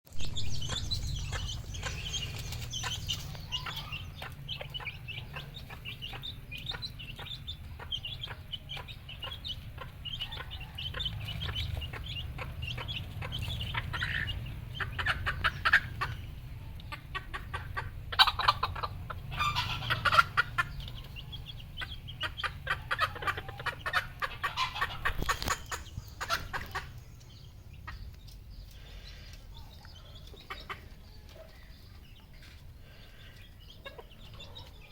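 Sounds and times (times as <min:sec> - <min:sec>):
chickens clucking and calling: 0:00.1 - 0:34.9.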